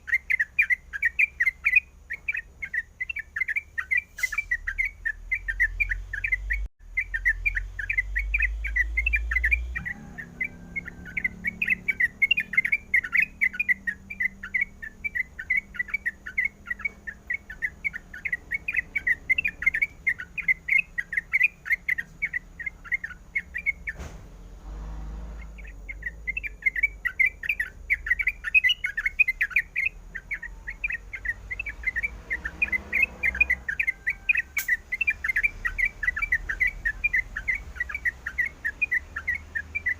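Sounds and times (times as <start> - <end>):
bulbul chattering song: 0.0 - 24.0, 25.4 - 39.9.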